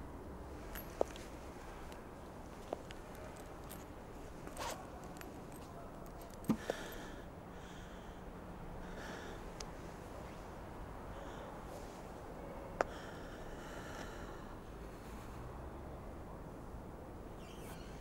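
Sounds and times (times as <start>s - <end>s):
soft breaths: 0.5s - 16.3s.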